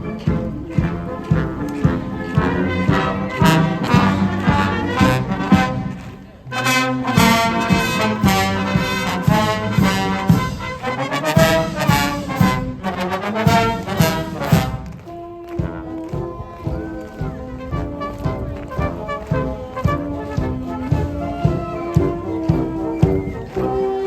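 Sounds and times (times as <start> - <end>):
drum beats: 0.0 - 23.9
military band playing a march: 0.0 - 24.0.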